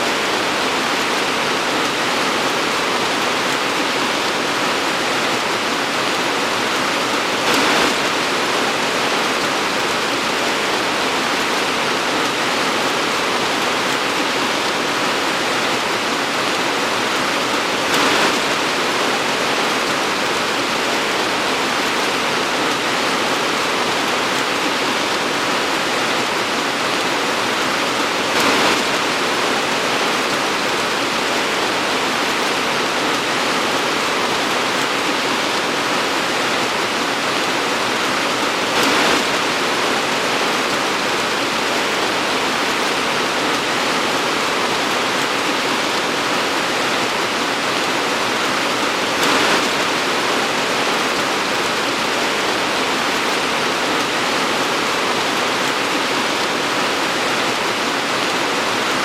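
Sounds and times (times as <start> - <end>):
torrential rain pouring: 0.0 - 59.0.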